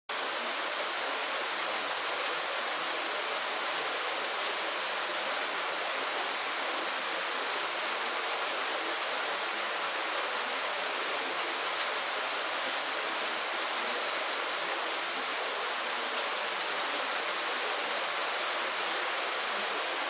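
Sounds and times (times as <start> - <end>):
heavy rain falling: 0.1 - 20.0.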